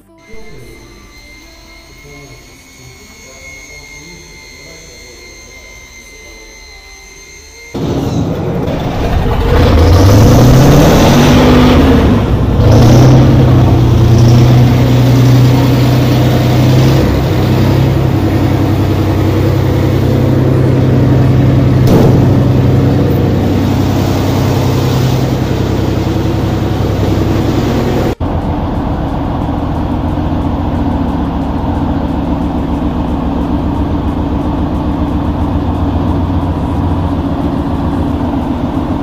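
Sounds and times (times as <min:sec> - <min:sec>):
diesel tractor engine starting: 0:00.0 - 0:05.5, 0:07.6 - 0:39.0.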